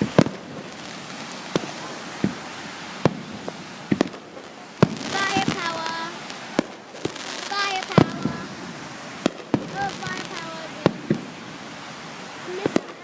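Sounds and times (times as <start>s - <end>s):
firework bangs: 0.0s - 13.0s.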